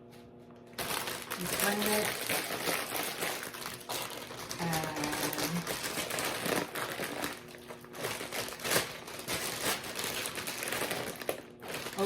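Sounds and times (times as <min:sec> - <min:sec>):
plastic packaging crinkling: 0:00.7 - 0:12.0.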